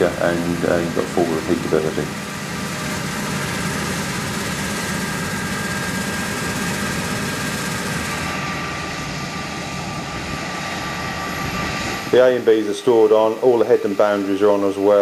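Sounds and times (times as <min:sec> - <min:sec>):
combine harvester engine drone: 0:00.0 - 0:15.0
high whine: 0:00.0 - 0:15.0.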